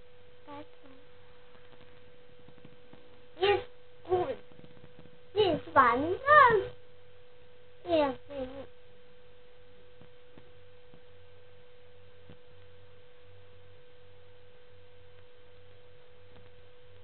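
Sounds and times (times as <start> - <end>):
faint steady electronic tone: 0.0 - 17.0.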